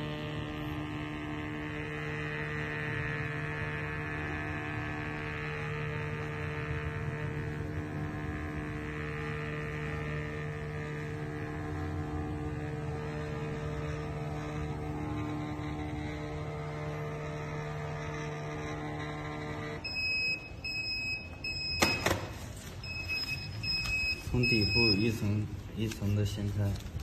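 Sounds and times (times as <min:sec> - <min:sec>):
printer feed motor humming and whining: 0:00.0 - 0:27.0.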